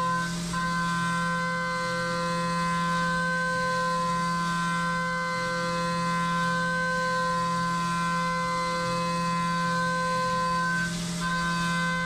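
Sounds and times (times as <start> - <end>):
milling machine cutting metal whine: 0.0 - 12.0.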